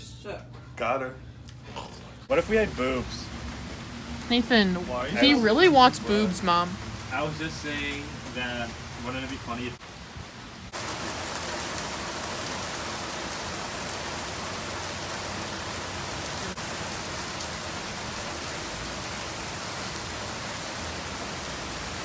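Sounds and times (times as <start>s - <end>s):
heavy rain falling: 2.3s - 22.0s.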